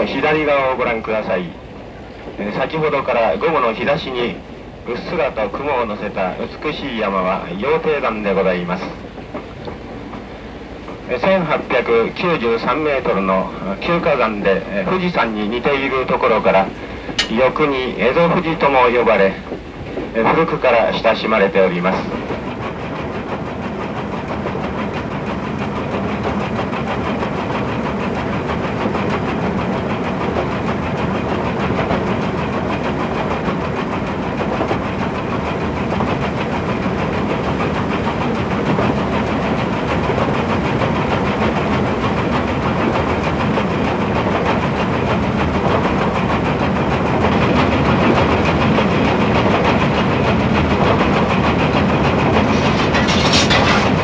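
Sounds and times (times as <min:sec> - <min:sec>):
steam locomotive exhaust: 0:00.0 - 0:54.0
wheels clattering on rails: 0:00.0 - 0:54.0.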